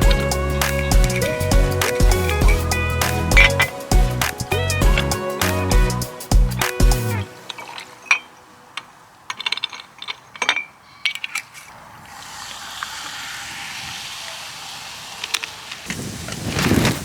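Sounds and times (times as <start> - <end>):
steady hiss: 0.0 - 9.3, 11.7 - 17.0.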